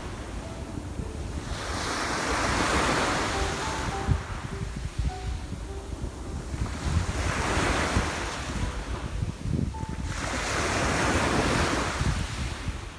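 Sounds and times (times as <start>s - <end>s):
sea waves breaking on shore: 0.0s - 12.9s
wind rumbling on microphone: 0.0s - 12.9s.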